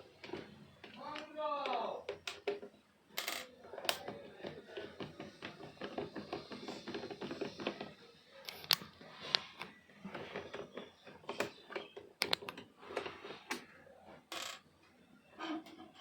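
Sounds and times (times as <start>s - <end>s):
hand tools clicking on plastic parts: 0.1s - 13.6s.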